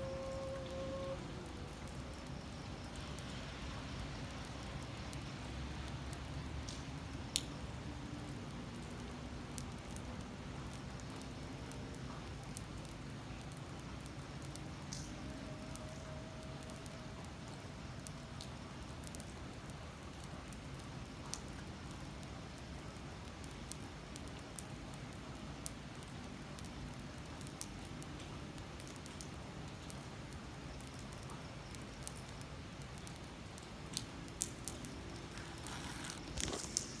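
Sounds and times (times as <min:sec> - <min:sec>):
rain on wet pavement: 0:00.0 - 0:37.0
rustle: 0:00.0 - 0:37.0.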